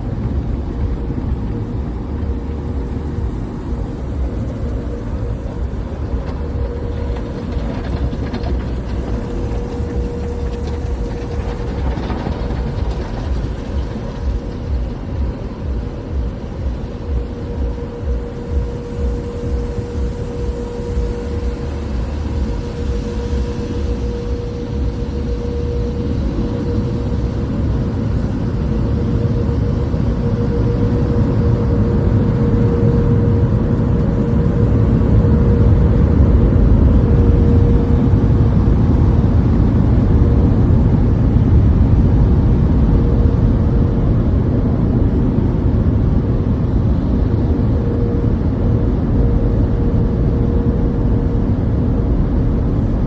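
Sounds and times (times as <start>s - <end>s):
car wash machinery rumbling: 0.0s - 53.0s.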